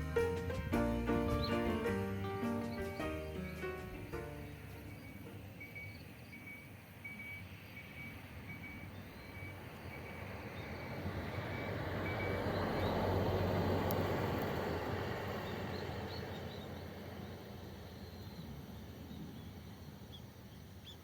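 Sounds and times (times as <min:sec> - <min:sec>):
bus driving past: 0:00.0 - 0:21.0.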